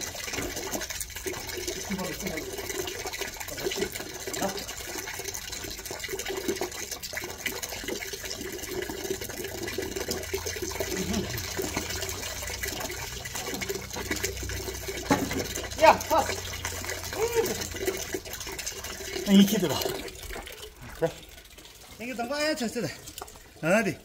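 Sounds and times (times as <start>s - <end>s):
tap water running into basin: 0.0s - 24.0s.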